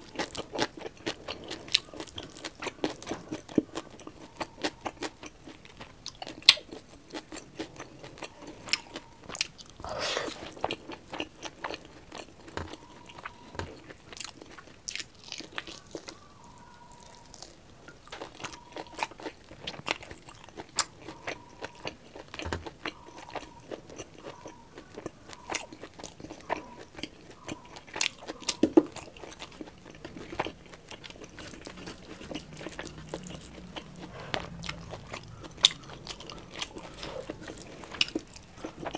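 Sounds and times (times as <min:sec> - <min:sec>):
chewing and lip smacking: 0:00.0 - 0:38.9.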